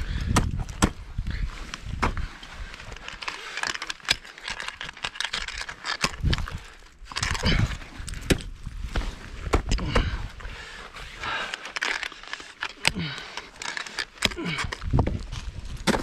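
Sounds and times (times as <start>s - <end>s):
ice scraping and crunching: 0.0s - 16.0s.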